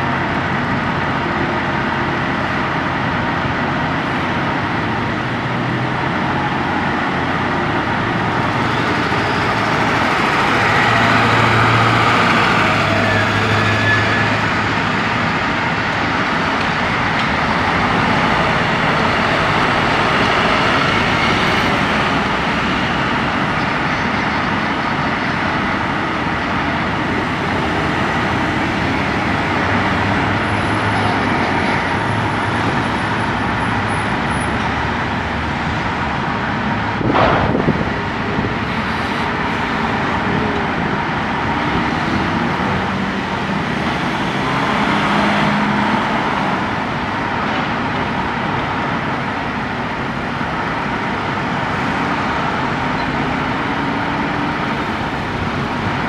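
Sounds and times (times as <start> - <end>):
heavy engines running: 0.0 - 56.0
road traffic: 0.0 - 56.0
vehicles driving past: 0.0 - 56.0.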